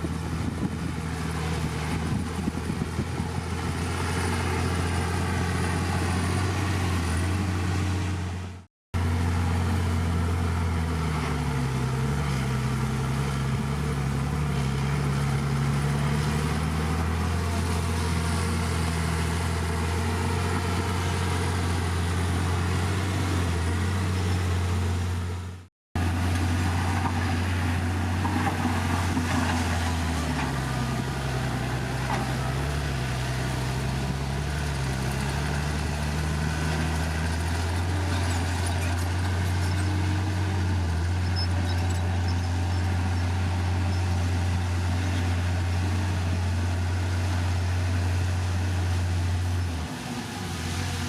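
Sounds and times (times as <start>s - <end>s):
heavy diesel engine droning: 0.0s - 51.0s.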